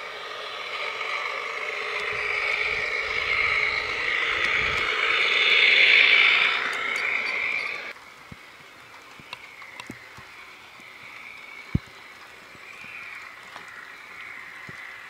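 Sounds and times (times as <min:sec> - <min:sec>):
high rail whine: 0:00.0 - 0:15.0
model train whirring on track: 0:00.0 - 0:15.0.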